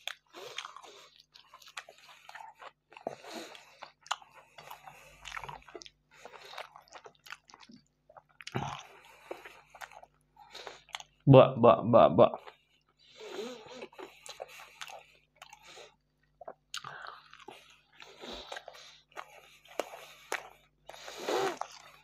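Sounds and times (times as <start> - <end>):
chewing with wet smacks: 0.0 - 11.2, 12.4 - 22.0.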